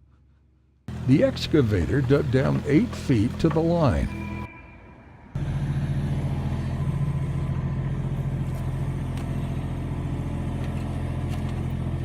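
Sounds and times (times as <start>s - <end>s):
excavator diesel engine: 0.9s - 4.5s, 5.3s - 12.0s.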